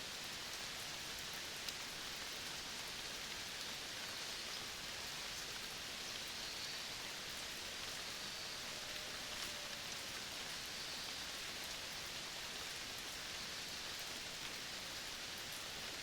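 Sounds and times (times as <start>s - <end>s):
outdoor forest ambience hiss: 0.0s - 16.0s.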